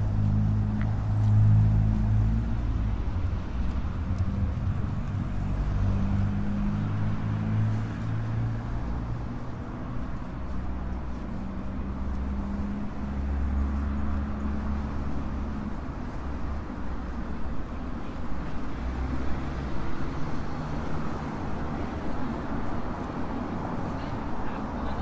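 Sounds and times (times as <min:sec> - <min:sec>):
street noise: 0:00.0 - 0:25.0
vehicle engines humming: 0:00.0 - 0:25.0.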